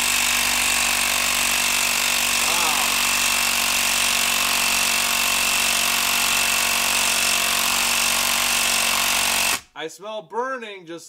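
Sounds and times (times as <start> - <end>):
impact driver rattling and whining: 0.0 - 9.7.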